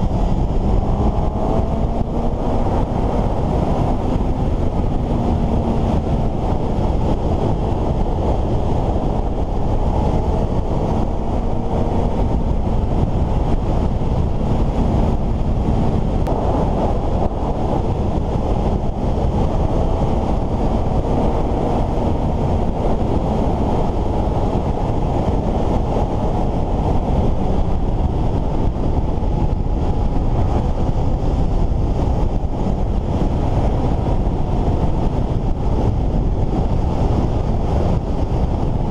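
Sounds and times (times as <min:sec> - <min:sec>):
motorcycle engine hum: 0:00.0 - 0:38.9
wind rushing on microphone: 0:00.0 - 0:38.9.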